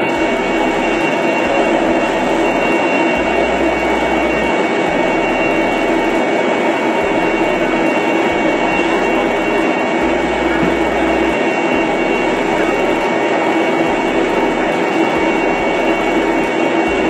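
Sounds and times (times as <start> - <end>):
jet aircraft roar with whine: 0.0 - 17.0.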